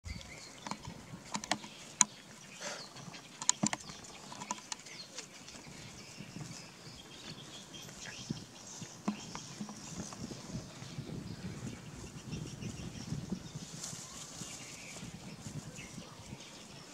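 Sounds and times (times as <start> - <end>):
faint rustling: 0.2 - 16.9.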